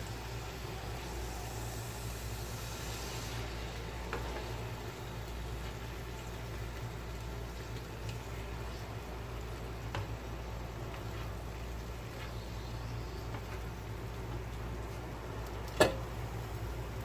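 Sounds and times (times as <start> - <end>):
food sizzling and bubbling: 0.0 - 17.0.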